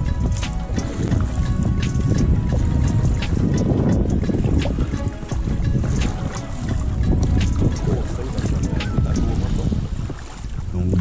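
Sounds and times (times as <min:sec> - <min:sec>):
waves slapping against boat: 0:00.0 - 0:11.0
wind rumbling on microphone: 0:00.0 - 0:11.0.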